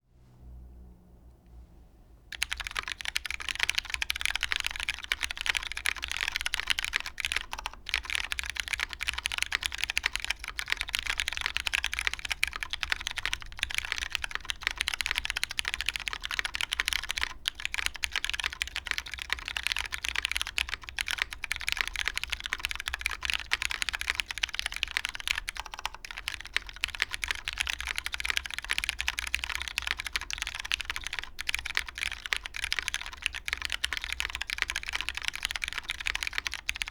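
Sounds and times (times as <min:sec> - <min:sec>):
fast typing on mechanical keyboard: 0:02.3 - 0:36.9.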